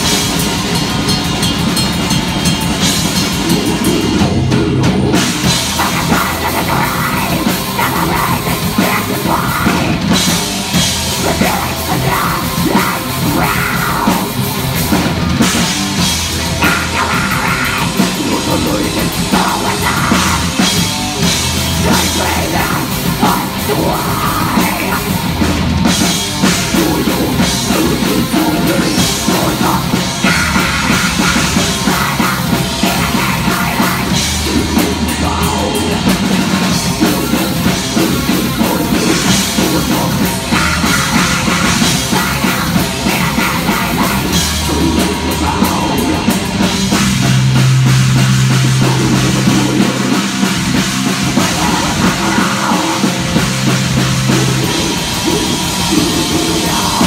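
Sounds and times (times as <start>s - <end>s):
bass guitar: 0.0s - 57.0s
distorted electric guitar: 0.0s - 57.0s
drum kit: 0.0s - 57.0s
harsh vocals: 2.9s - 57.0s.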